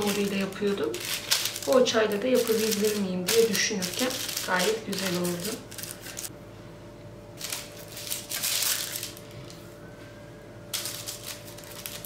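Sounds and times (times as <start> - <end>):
baking paper rustling: 0.0 - 6.3, 7.4 - 9.7, 10.7 - 12.0.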